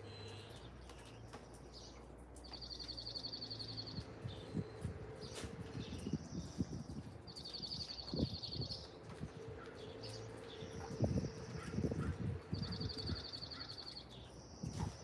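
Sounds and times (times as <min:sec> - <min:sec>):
songbirds trilling: 0:00.1 - 0:15.0.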